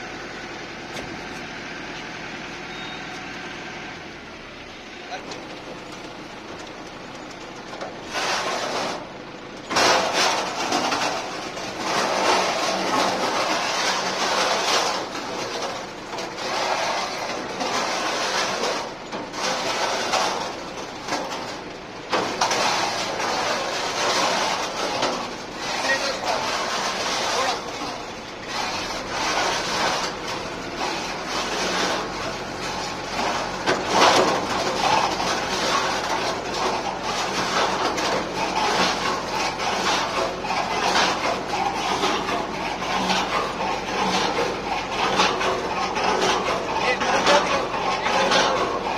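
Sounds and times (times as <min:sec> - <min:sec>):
engine hum: 0:00.0 - 0:48.9
concrete mixer gritty rushing: 0:03.6 - 0:48.9.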